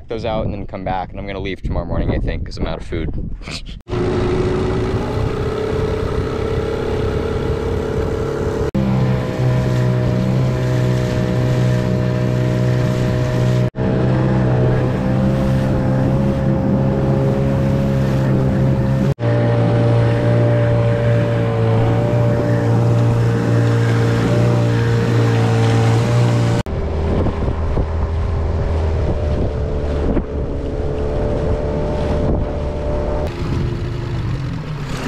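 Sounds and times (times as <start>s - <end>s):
wind noise: 0.0s - 8.8s, 14.7s - 34.7s
water noise: 3.8s - 35.0s
outboard motor running: 3.9s - 35.0s.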